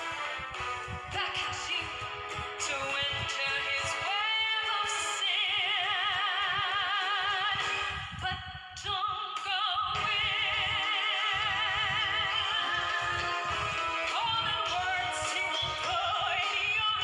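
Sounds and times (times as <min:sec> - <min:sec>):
backing music: 0:00.0 - 0:08.3, 0:10.0 - 0:17.0
woman singing with vibrato: 0:00.9 - 0:17.0.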